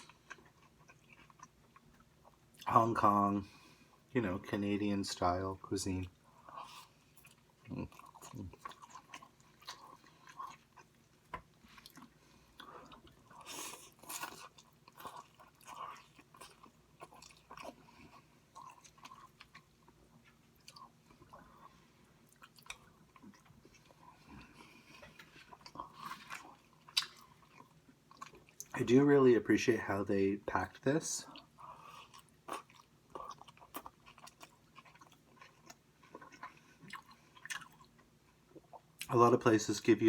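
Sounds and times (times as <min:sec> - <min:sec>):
person chewing food: 0:00.0 - 0:02.7, 0:06.1 - 0:28.8, 0:31.2 - 0:39.1.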